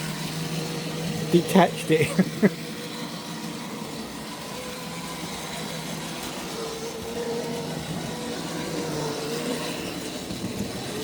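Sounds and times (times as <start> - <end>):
model train motor whirring: 0.0 - 11.0.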